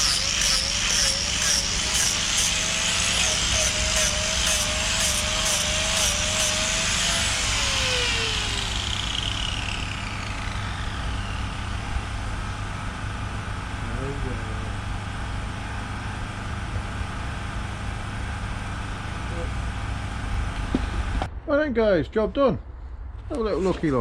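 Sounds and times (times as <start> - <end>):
power sander on wood: 0.0 - 19.5
steady low hum: 0.0 - 24.0.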